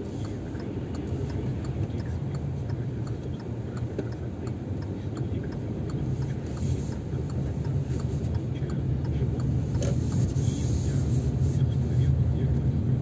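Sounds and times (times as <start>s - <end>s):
car cabin engine and tyre rumble: 0.0s - 13.0s
turn signal ticking: 0.0s - 13.0s.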